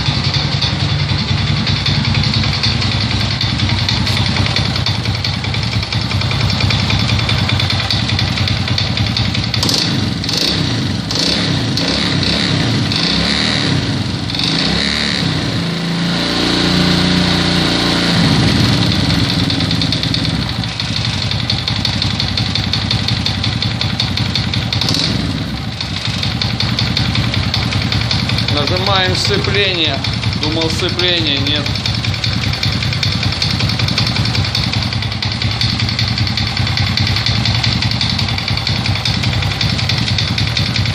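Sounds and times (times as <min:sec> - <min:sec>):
moped engine knocking: 0:00.0 - 0:14.8, 0:18.1 - 0:40.9.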